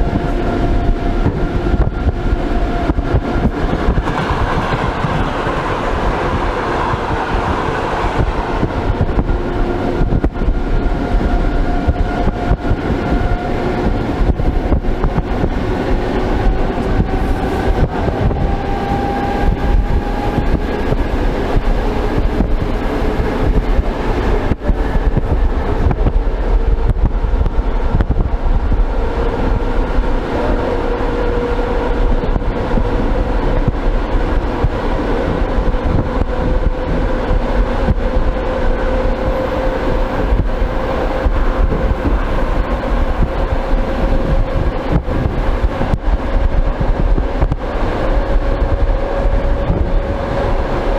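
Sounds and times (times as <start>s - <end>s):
train wheels rumbling on rails: 0.0s - 50.9s
whine from running gear: 0.0s - 50.9s.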